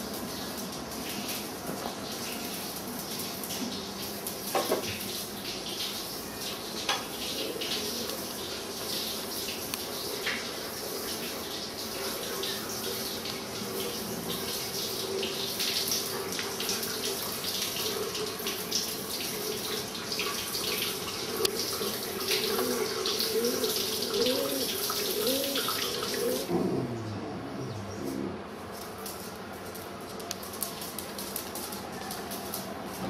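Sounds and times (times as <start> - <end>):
water running from a tap: 0.0 - 26.5.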